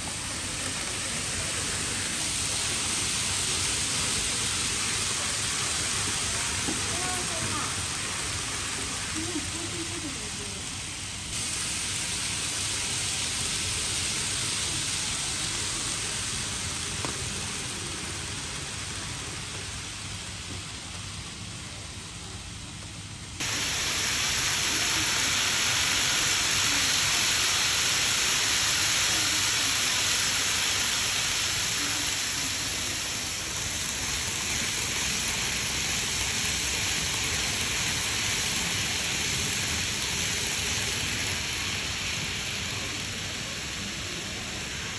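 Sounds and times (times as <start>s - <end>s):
model trains running on track: 0.0s - 44.9s.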